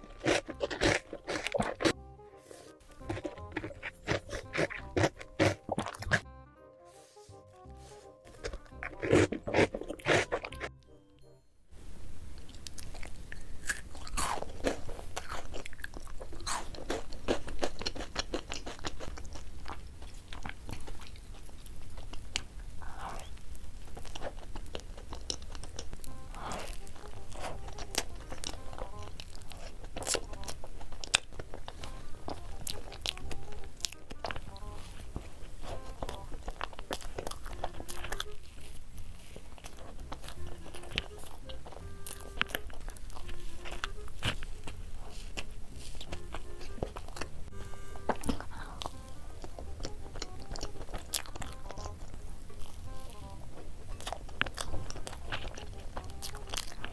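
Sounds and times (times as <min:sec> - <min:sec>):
crunching bites and chewing: 0:00.0 - 0:02.0, 0:02.9 - 0:06.2, 0:08.3 - 0:10.8, 0:12.4 - 0:56.9.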